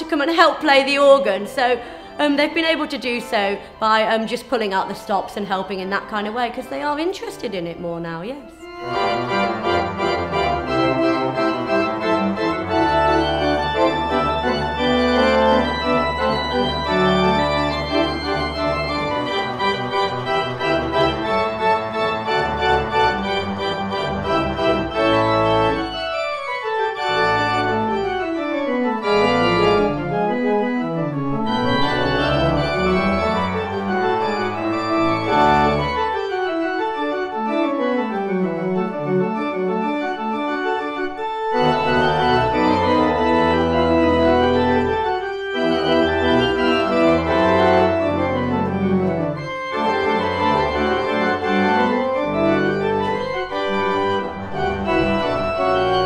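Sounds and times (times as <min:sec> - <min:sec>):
pipe organ playing: 0:00.0 - 0:56.0.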